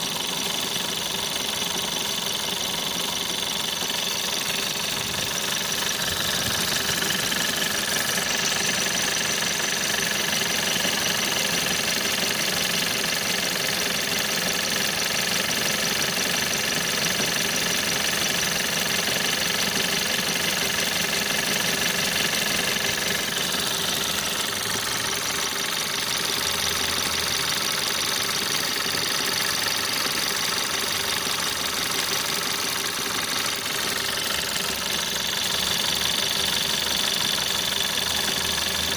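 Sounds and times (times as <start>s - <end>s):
car engine running: 0.0s - 38.9s
engine knocking noise: 0.0s - 38.9s.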